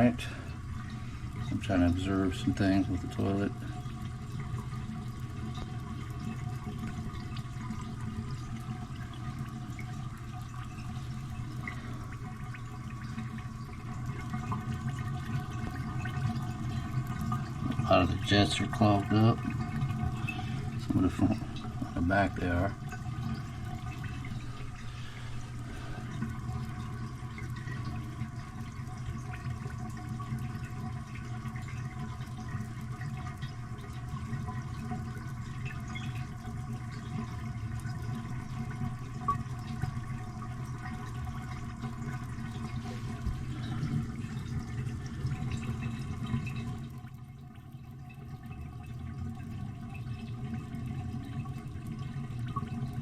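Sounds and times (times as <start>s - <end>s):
toilet tank refilling: 0.0s - 53.0s.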